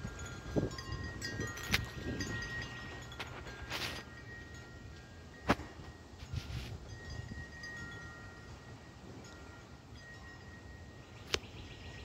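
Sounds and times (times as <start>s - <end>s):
wind chimes ringing: 0.0s - 12.0s.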